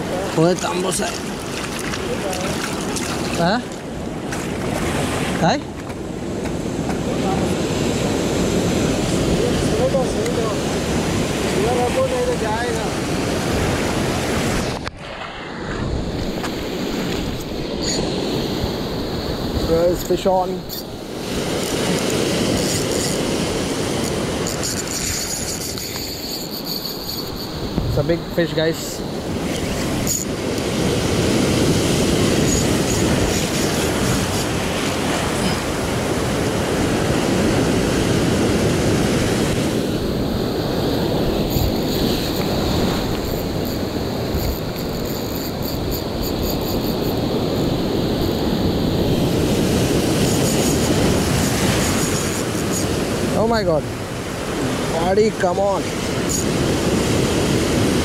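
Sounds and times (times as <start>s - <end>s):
wind buffeting microphone: 0.0s - 24.6s, 25.2s - 58.0s
sea surf on rocky shore: 0.0s - 58.0s.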